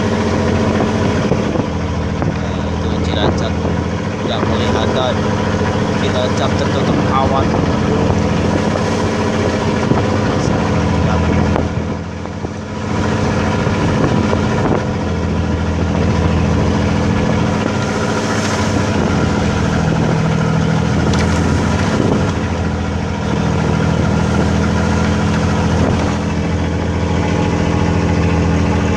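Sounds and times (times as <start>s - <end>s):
boat engine droning: 0.0s - 28.9s.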